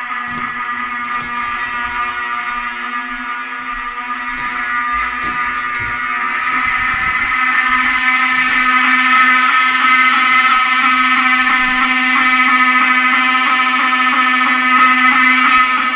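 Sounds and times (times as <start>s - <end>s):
fire alarm buzzing: 0.0s - 15.9s.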